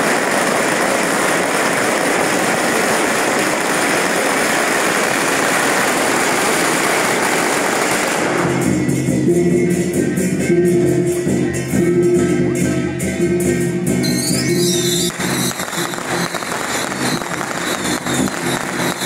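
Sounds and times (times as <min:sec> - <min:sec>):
firecrackers crackling: 0:00.0 - 0:10.4, 0:14.0 - 0:19.0.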